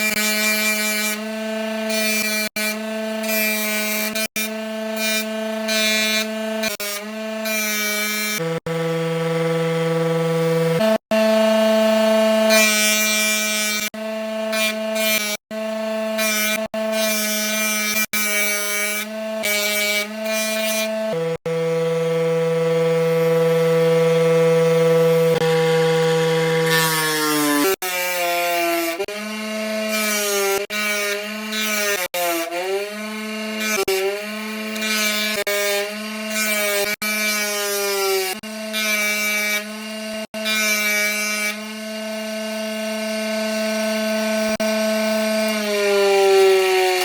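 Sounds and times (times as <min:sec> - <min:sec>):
power tool motor whining: 0:00.0 - 0:47.0.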